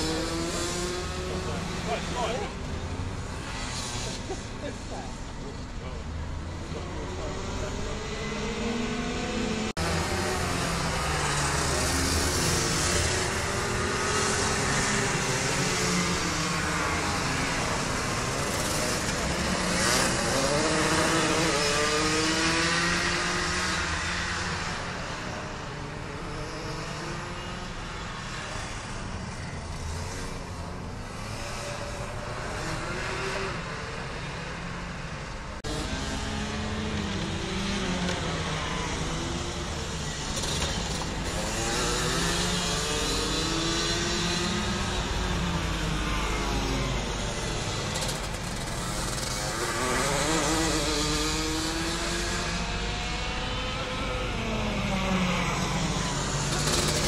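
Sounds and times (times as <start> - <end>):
racing kart engines: 0.0 - 57.0.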